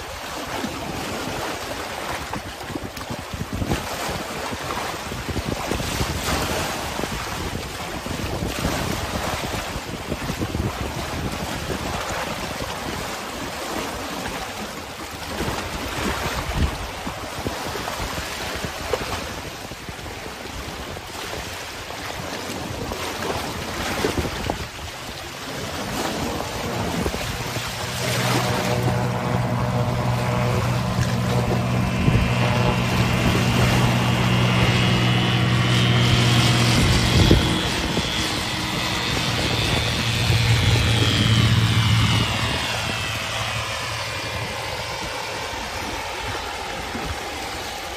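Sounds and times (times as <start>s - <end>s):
sea waves washing: 0.0s - 47.9s
wind buffeting microphone: 0.0s - 47.9s.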